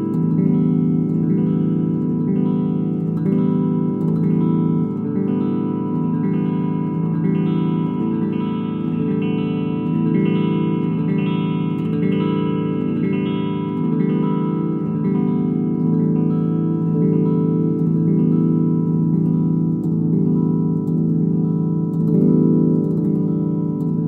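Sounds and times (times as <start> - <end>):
electric guitar chord strummed: 0.0 - 24.0.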